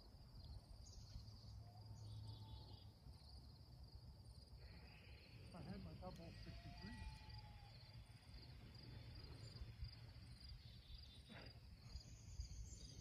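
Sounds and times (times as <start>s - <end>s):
faint insect chirping: 0.0s - 13.0s.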